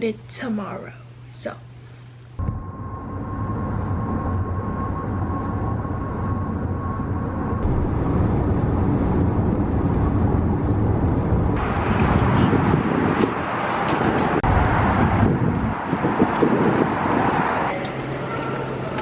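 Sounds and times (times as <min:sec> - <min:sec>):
car road noise rumble: 0:02.4 - 0:19.0.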